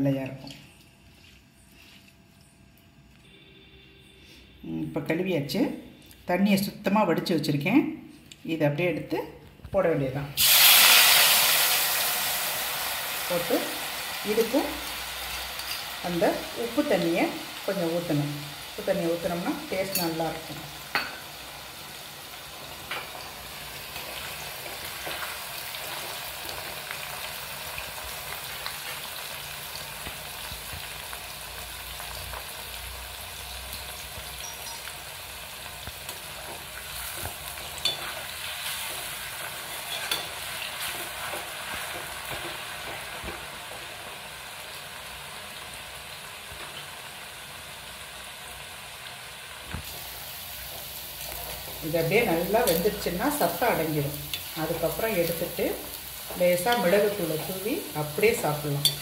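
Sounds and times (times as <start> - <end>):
oil sizzling and bubbling: 10.4 - 59.0.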